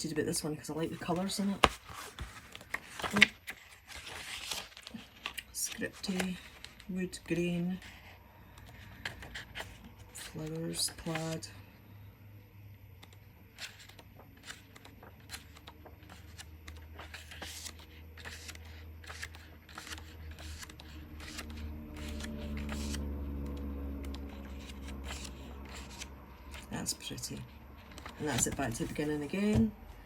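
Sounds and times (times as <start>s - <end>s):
paper pages flipping: 1.0s - 6.9s, 7.8s - 11.5s, 12.9s - 29.7s.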